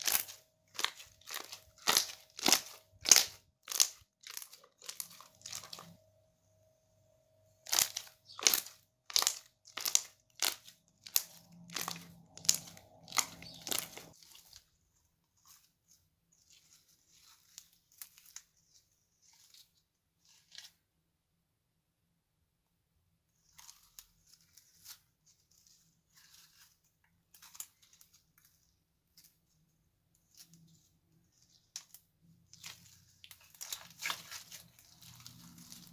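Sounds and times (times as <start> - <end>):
faint slime crackles: 0.0 - 6.2, 7.6 - 21.0, 23.3 - 35.9
slime squelching: 0.0 - 6.2, 7.5 - 20.8, 23.3 - 35.9.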